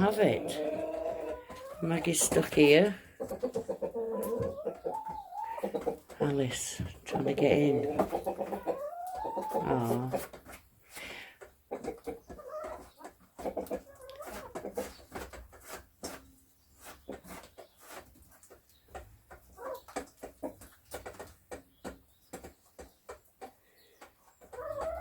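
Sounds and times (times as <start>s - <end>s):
chickens clucking softly: 0.0s - 25.0s
chickens pecking at food: 0.0s - 25.0s.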